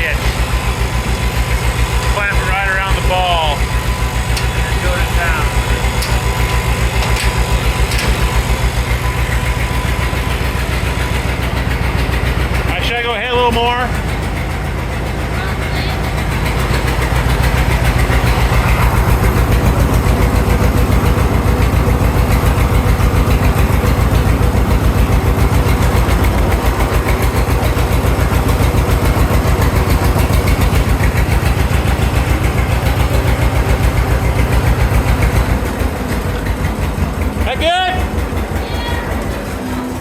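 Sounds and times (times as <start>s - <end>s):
engine running with fast throbbing: 0.0s - 40.0s.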